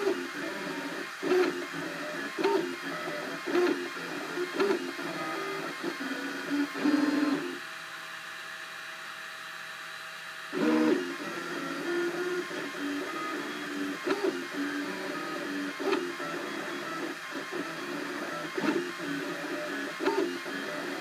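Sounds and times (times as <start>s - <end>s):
stepper motors whining: 0.0s - 7.6s, 10.5s - 21.0s.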